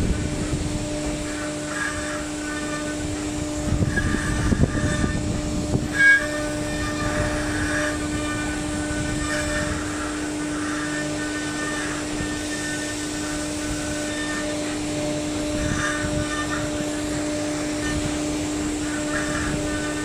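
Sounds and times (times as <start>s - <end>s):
cutter scraping wood: 0.0s - 20.0s
router spindle humming: 0.0s - 20.0s.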